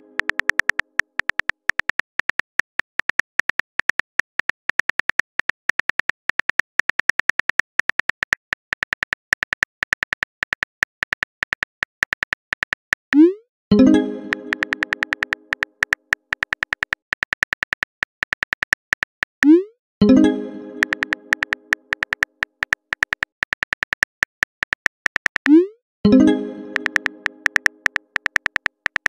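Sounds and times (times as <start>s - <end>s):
phone keyboard key clicks: 0.1s - 12.8s, 14.4s - 19.4s, 20.8s - 25.5s, 26.7s - 29.0s.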